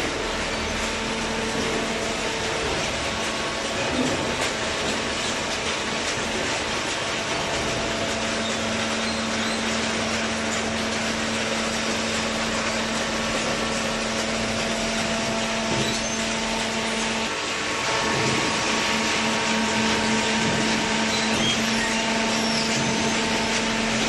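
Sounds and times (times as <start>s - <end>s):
hydraulic baler humming: 0.0s - 24.0s.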